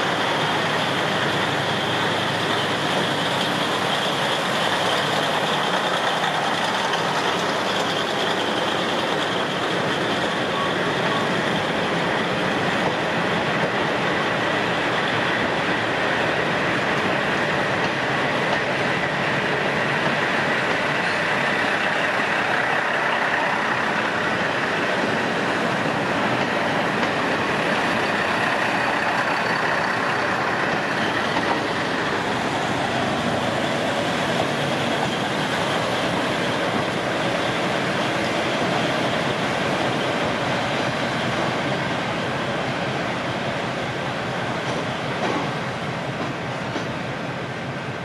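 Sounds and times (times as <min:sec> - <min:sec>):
diesel train engines running: 0:00.0 - 0:48.0
train wheels rolling over rails: 0:00.0 - 0:48.0.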